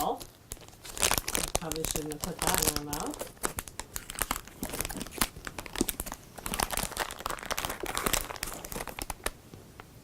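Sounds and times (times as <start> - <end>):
plastic packet crinkling: 0.0 - 9.4.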